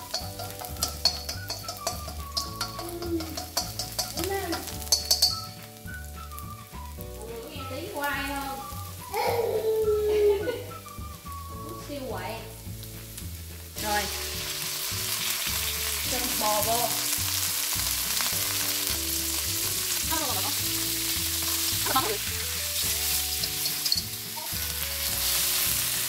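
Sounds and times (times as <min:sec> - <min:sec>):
garlic sizzling in oil: 0:00.0 - 0:26.0
meat sizzling: 0:00.0 - 0:26.0.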